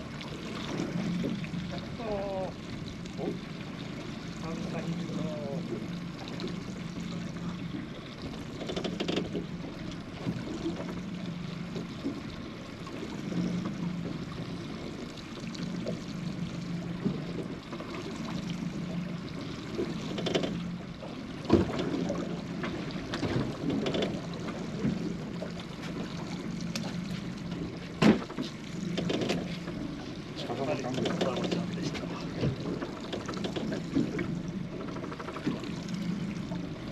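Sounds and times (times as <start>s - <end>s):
water lapping against boat hull: 0.0s - 36.9s.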